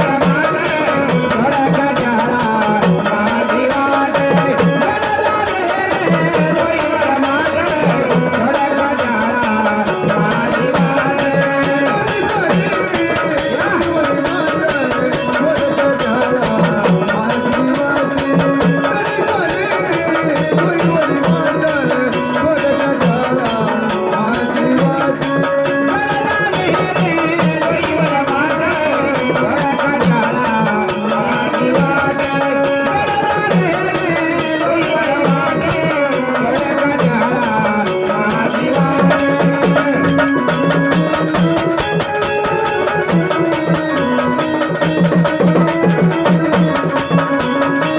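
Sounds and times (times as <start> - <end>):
hand drums beating: 0.0 - 47.9.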